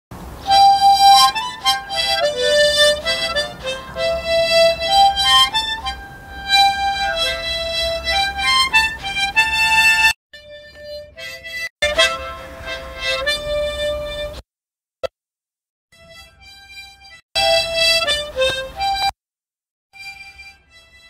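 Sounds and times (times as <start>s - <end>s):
wind instrument solo melody: 0.4s - 14.4s, 16.0s - 19.1s, 20.0s - 21.0s.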